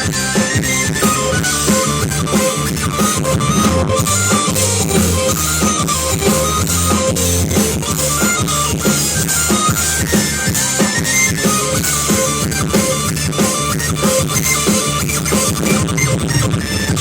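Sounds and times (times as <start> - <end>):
drum kit beat: 0.0 - 17.0
guitar: 0.0 - 17.0
low bass notes: 0.0 - 17.0.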